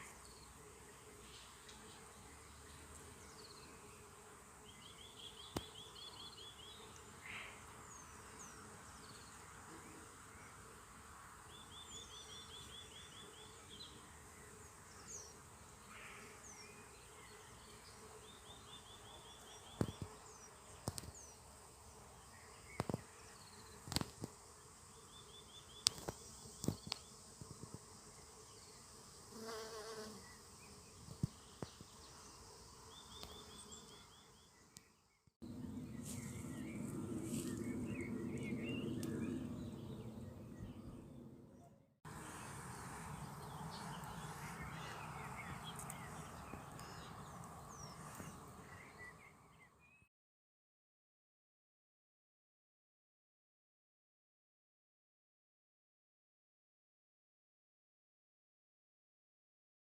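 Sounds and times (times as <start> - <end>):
insects buzzing: 0.0 - 40.8, 42.1 - 49.6.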